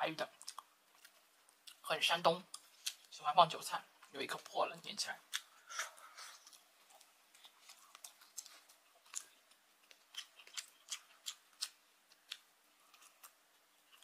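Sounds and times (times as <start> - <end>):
soft chewing: 0.2 - 3.2, 3.9 - 14.0.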